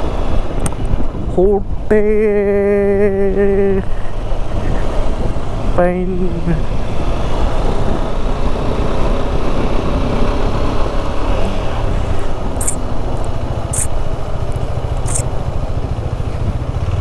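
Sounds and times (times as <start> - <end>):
road noise: 0.0 - 17.0
motorcycle engine riding: 2.2 - 17.0.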